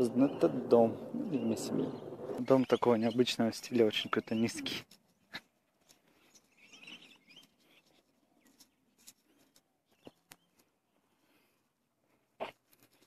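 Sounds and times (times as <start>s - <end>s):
faint bird chirping: 0.0s - 11.6s.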